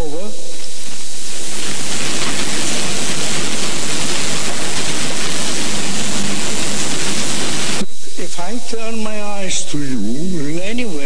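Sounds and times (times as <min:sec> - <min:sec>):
loud static hiss: 0:00.0 - 0:11.0.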